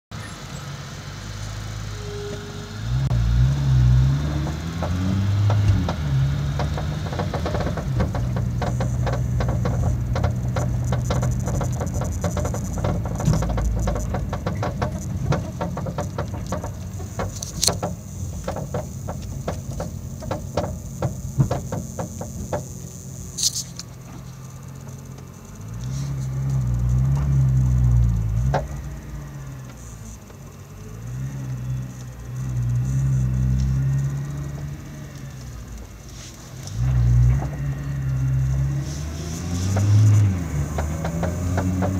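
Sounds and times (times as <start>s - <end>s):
car engine revving: 0.1s - 41.9s
suspension clicks and rattles: 3.0s - 41.9s.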